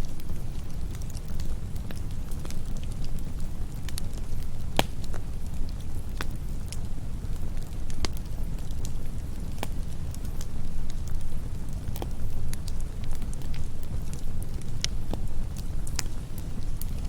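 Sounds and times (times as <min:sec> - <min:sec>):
campfire flames rumbling: 0:00.0 - 0:17.0
fire crackles and pops: 0:00.0 - 0:17.0.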